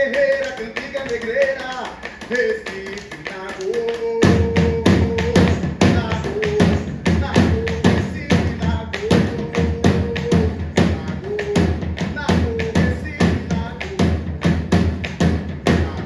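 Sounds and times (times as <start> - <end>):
fast percussion beat: 0.0 - 16.0.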